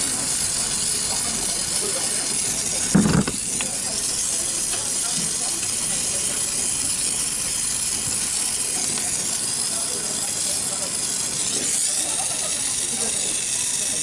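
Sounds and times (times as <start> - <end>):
air cooler blowing hiss: 0.0 - 14.0.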